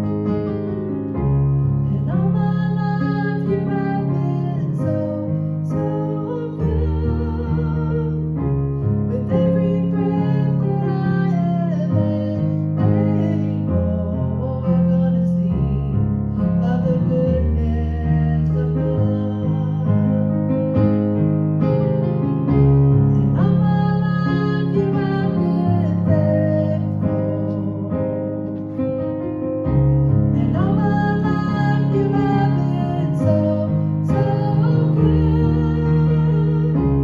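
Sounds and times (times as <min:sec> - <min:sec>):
grand piano chords: 0:00.0 - 0:37.0
woman singing: 0:01.9 - 0:08.4, 0:09.1 - 0:20.4, 0:23.2 - 0:28.3, 0:30.4 - 0:37.0.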